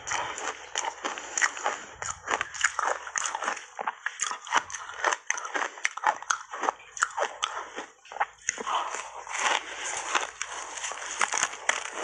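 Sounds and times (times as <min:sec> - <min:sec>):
ice being crunched and chewed: 0:00.0 - 0:12.0.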